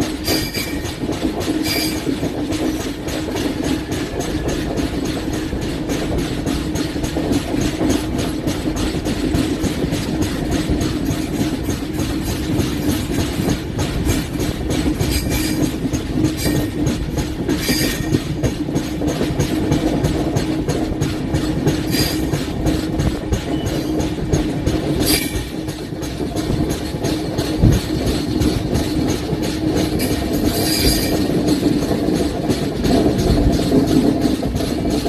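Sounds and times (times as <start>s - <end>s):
train rumble on rails: 0.0s - 35.0s
train wheel pounding knock: 0.0s - 35.0s.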